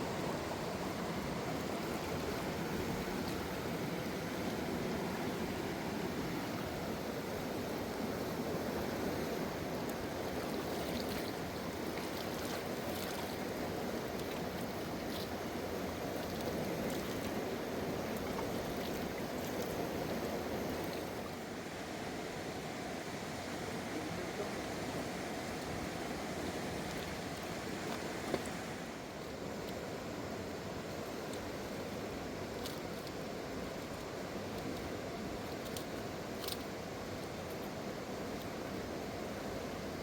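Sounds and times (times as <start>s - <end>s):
river rushing over rocks: 0.0s - 40.0s.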